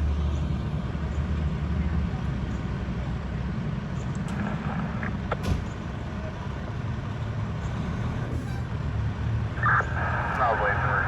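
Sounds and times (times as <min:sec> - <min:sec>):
fire engine running: 0:00.0 - 0:11.0.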